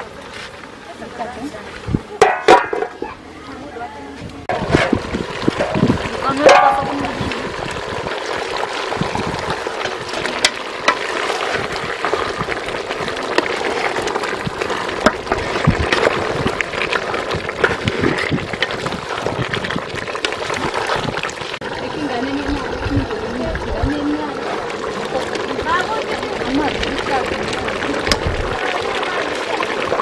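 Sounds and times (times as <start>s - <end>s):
meat and vegetables sizzling: 4.4s - 30.0s.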